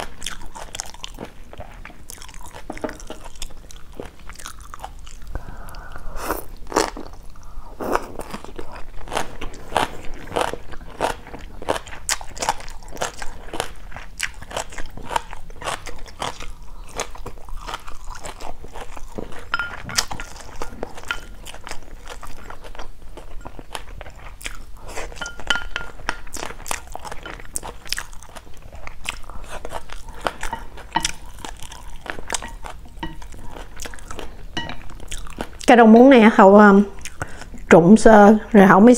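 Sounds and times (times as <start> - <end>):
chewing and crunching food: 0.0 - 37.8.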